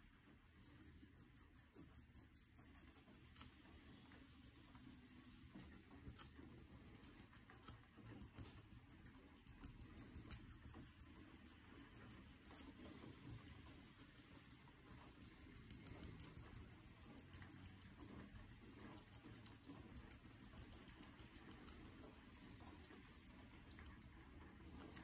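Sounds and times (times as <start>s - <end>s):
marker nib scratching on paper: 0.0s - 25.0s.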